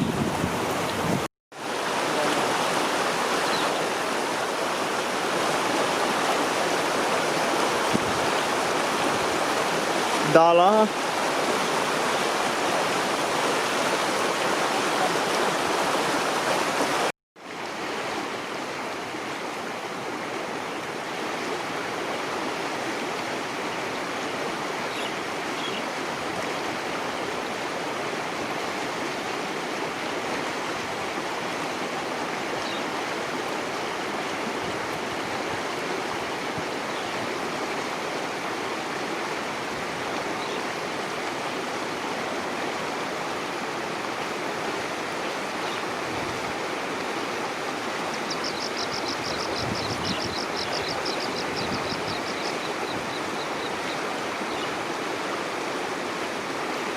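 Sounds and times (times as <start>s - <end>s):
floodwater rushing: 0.0s - 56.9s.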